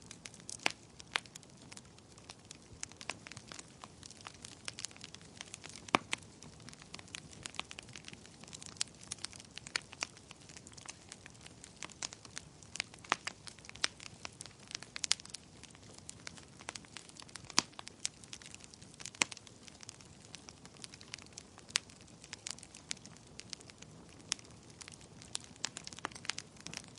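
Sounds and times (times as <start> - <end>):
fireplace fire crackling: 0.0 - 26.9.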